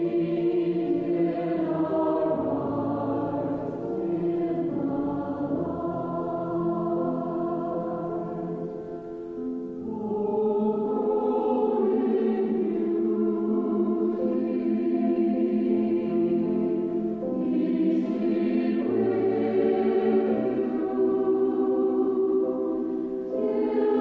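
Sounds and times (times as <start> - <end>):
choir singing in harmony: 0.0 - 24.0.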